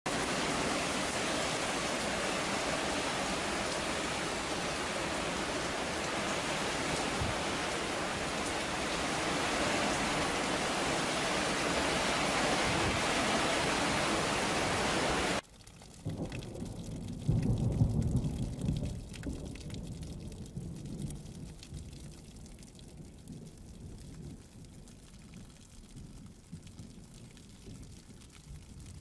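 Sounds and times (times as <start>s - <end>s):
heavy rain pouring: 0.1s - 29.0s.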